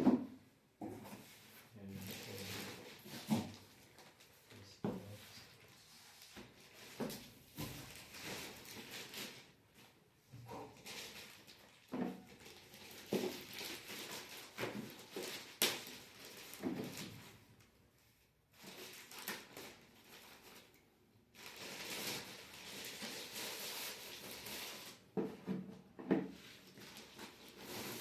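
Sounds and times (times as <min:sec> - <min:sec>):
wrapping rustling and crinkling: 0:01.4 - 0:17.5, 0:18.5 - 0:25.2, 0:26.3 - 0:28.0.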